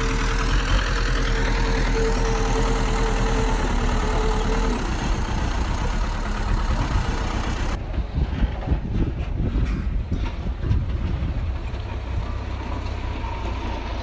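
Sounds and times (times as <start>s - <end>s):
bulldozer diesel engine: 0.0s - 14.0s.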